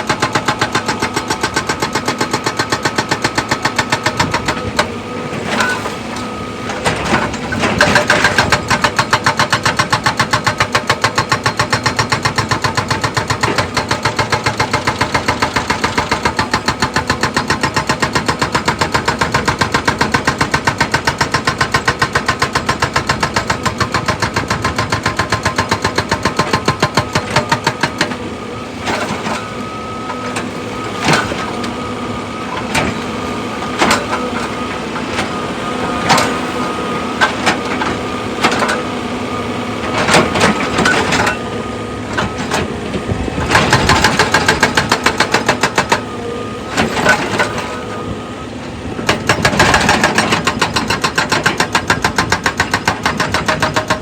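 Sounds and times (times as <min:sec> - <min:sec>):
machinery engine hum: 0:00.0 - 0:54.0.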